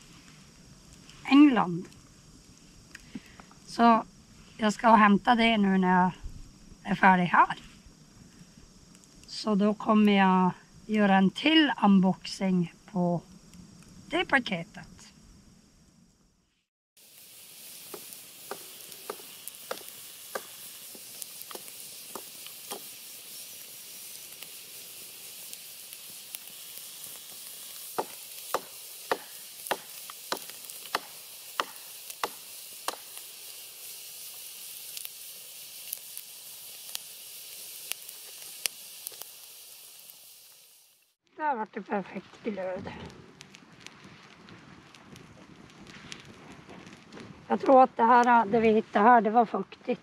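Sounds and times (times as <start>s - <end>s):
sausage sizzling and popping: 0.0s - 10.1s, 17.0s - 48.5s.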